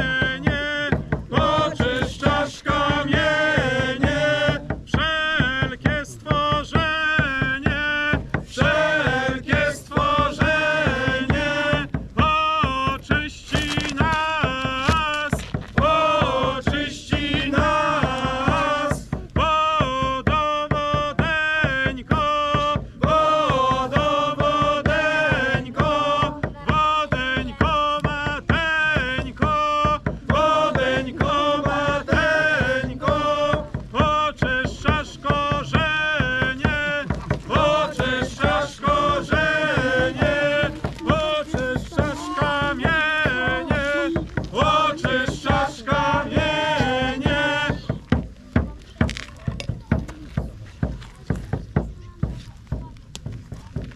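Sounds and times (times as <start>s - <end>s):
voices singing a chant: 0.0s - 50.2s
drum beating: 0.0s - 53.9s.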